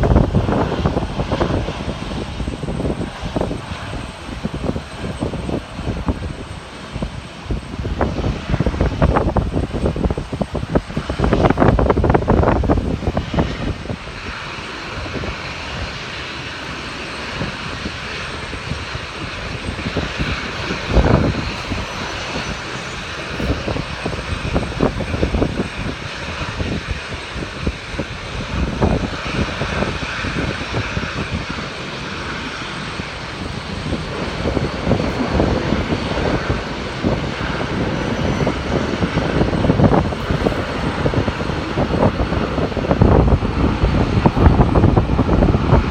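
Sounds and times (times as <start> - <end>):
airliner engines rushing: 0.0 - 45.9
wind buffeting microphone: 0.0 - 45.9.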